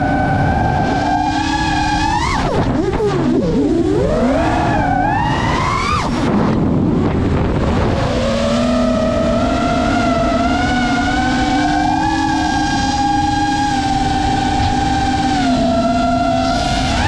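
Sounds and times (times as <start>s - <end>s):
drone motors and propellers whining: 0.0s - 17.0s.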